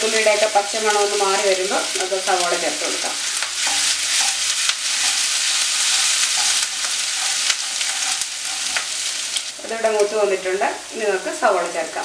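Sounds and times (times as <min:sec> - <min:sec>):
ginger and garlic sizzling in oil: 0:00.0 - 0:12.0.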